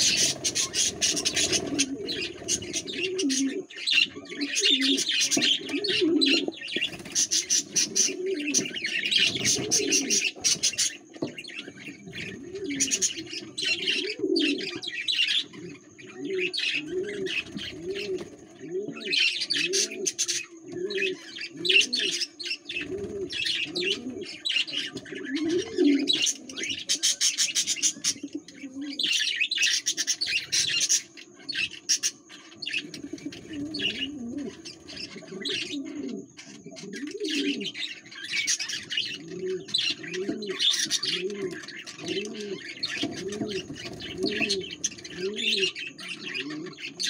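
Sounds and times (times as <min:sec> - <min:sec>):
budgerigars chirping and chattering: 0:00.0 - 0:47.0.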